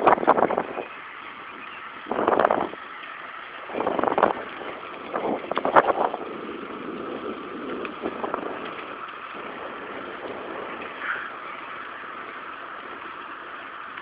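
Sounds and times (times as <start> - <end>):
bicycle tyre noise: 0.0 - 14.0.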